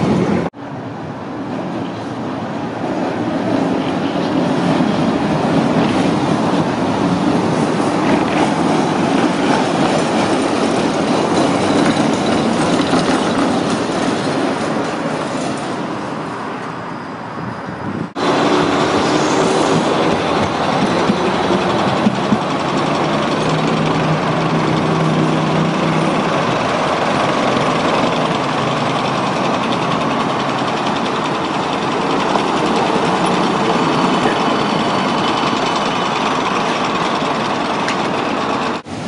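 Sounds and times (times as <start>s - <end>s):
low-floor tram passing close: 0.0s - 39.0s
tram wheels rumbling on rails: 0.0s - 39.0s.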